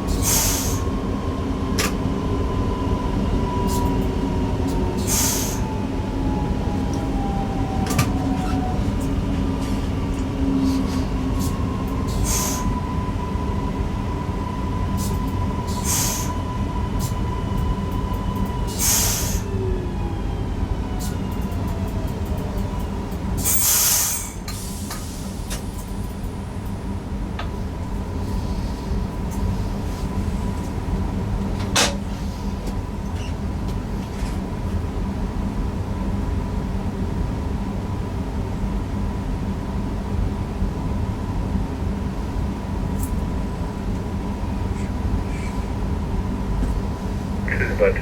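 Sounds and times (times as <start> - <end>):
electric train rumble and whine: 0.0 - 48.0.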